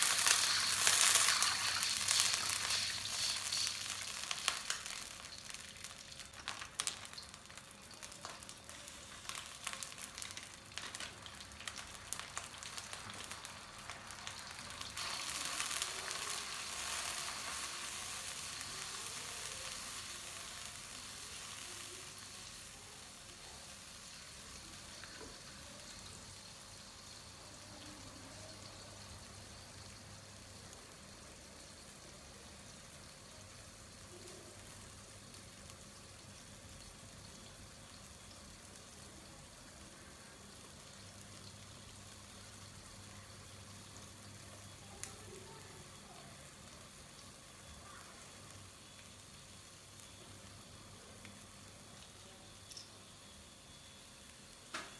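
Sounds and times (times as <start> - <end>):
food sizzling in a wok: 0.0 - 54.9.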